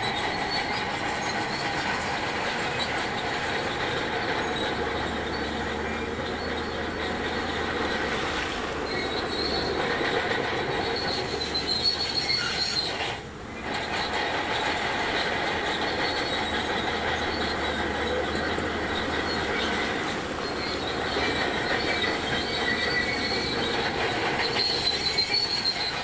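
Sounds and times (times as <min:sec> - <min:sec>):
bulldozer engine running: 0:00.0 - 0:26.0
steel tracks squealing and clanking: 0:00.0 - 0:26.0.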